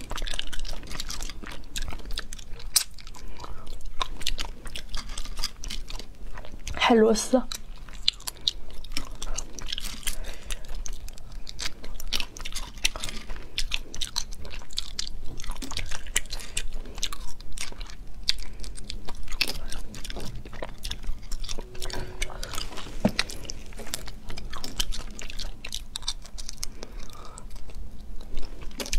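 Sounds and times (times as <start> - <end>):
chewing: 0.0 - 28.9.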